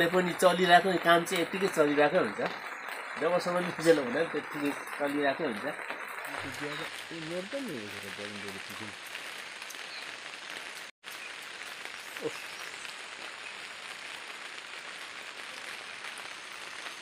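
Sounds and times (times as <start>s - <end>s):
rain on a greenhouse roof: 0.0s - 17.0s.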